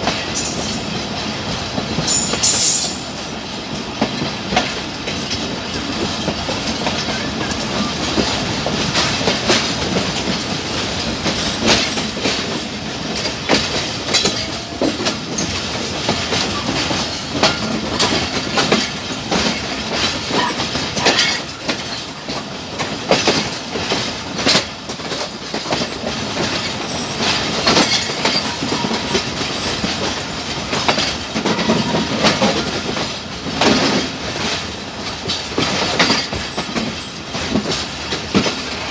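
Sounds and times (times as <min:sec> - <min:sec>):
train rumbling on track: 0:00.0 - 0:38.9
wheels clacking over rail joints: 0:00.0 - 0:38.9.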